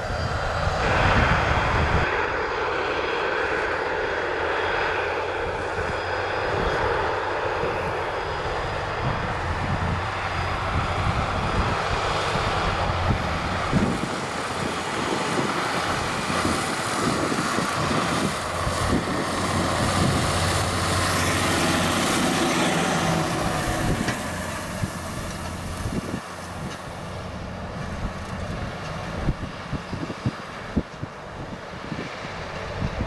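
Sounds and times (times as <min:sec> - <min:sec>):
tractor diesel engine passing: 0:00.0 - 0:33.0.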